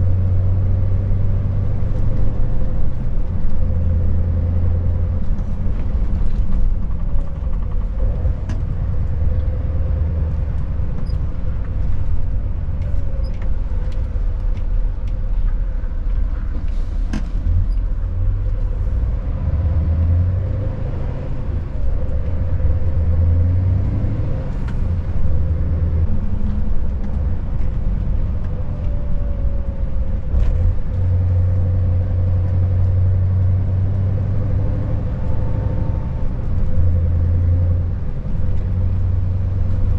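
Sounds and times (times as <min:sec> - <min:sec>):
diesel truck engine running: 0:00.0 - 0:39.9
tyre and road noise: 0:00.0 - 0:39.9.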